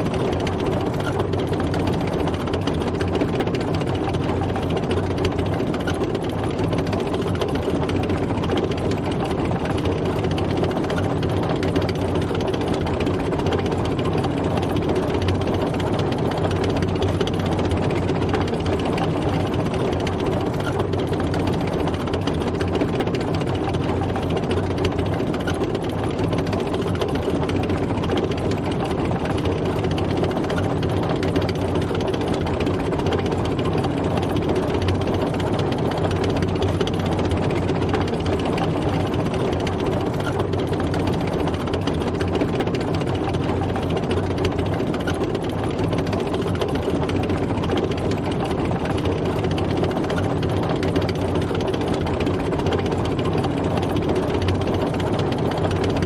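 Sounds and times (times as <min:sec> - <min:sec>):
fast mechanical clatter: 0:00.0 - 0:56.0
heavy tank engine: 0:00.0 - 0:56.0.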